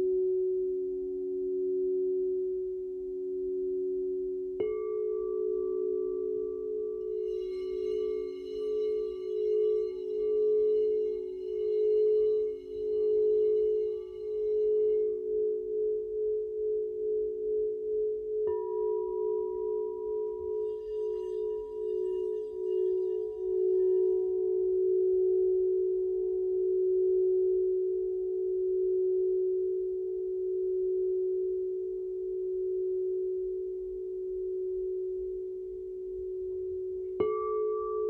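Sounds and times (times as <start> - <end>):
crystal singing bowls ringing: 3.4 - 35.5, 36.3 - 38.0.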